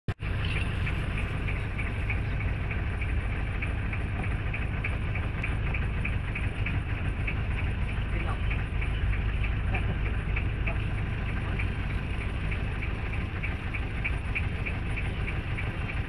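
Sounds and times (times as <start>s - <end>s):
boat engine drone: 0.1s - 16.0s
light regular ticking: 0.2s - 16.0s.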